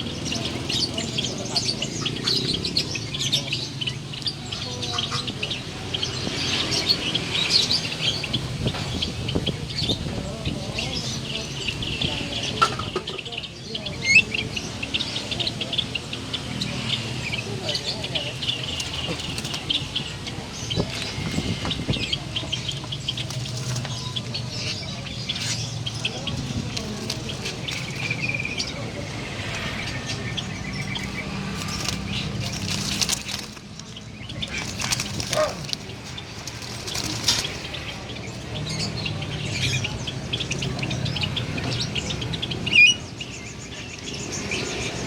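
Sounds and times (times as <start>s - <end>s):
low background murmur: 0.0s - 45.0s
starlings chirping: 0.0s - 45.0s.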